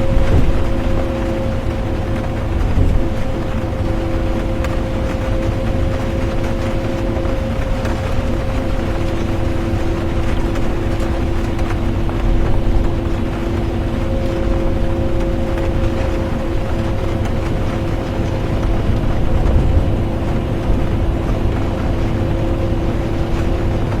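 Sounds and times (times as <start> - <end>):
constant whine: 0.0 - 24.0
engine and road rumble: 0.0 - 24.0.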